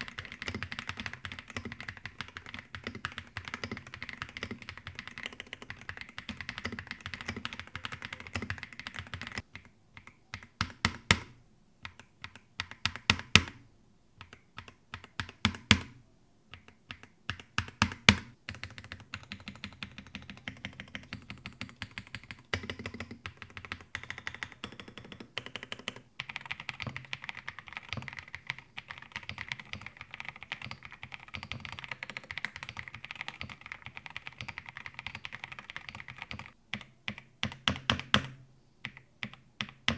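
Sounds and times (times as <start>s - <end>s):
mechanical keyboard typing: 0.0s - 13.6s, 14.2s - 39.9s.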